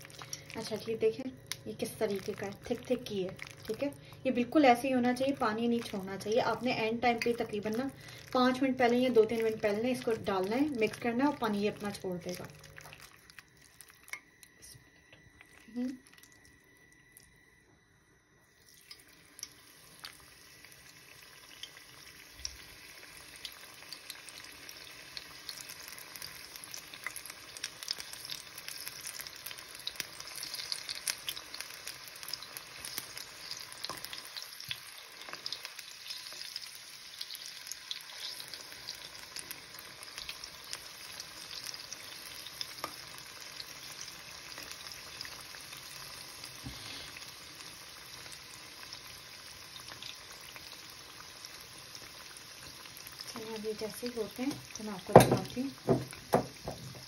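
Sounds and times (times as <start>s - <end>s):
batter sizzling in hot oil: 0.0s - 17.5s, 18.4s - 57.0s.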